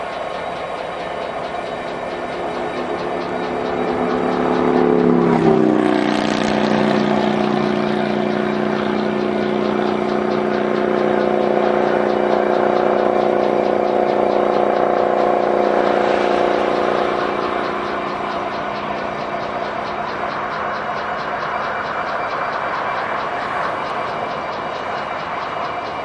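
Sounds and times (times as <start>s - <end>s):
locomotive engine drone: 0.0s - 26.0s
wheel and rail noise: 0.0s - 26.0s.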